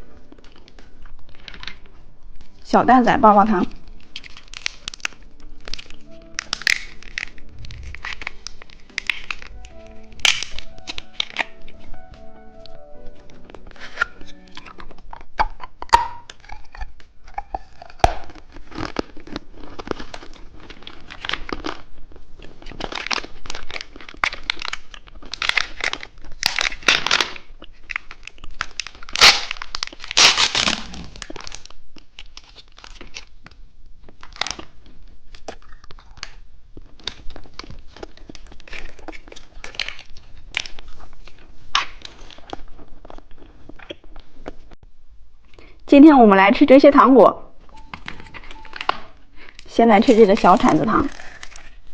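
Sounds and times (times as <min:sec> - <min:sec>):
candy wrappers crinkling: 0:00.1 - 0:44.7, 0:47.8 - 0:51.9.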